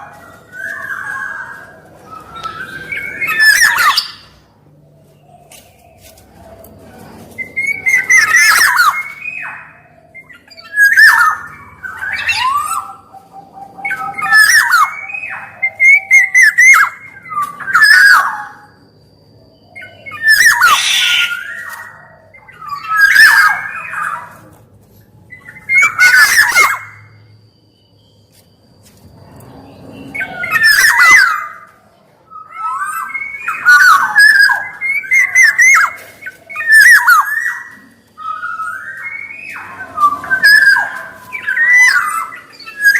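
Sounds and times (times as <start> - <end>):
bird harsh calls and whistles: 0.0 - 42.9.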